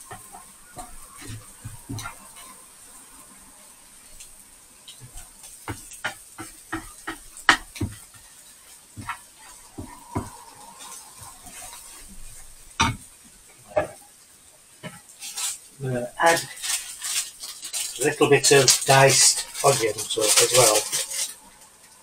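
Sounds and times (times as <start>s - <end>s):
utensil scraping frying pan: 0.0s - 3.4s, 4.0s - 14.0s, 14.8s - 21.6s
faint sizzle of frying: 0.0s - 22.0s.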